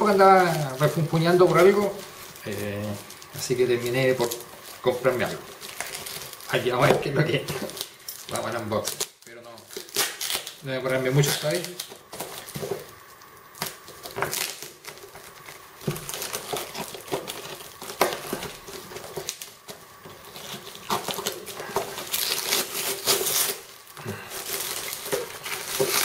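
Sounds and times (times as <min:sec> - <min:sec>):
plastic wrap crinkling: 0:00.0 - 0:26.0.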